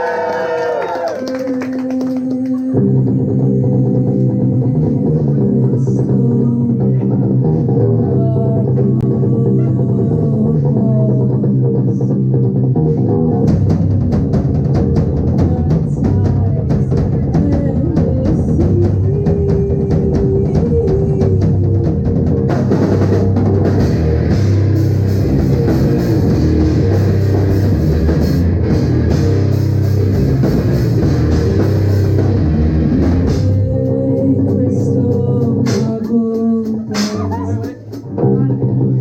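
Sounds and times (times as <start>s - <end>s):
bass guitar: 0.0s - 39.0s
drum kit: 0.0s - 39.0s
electric guitar: 0.0s - 39.0s.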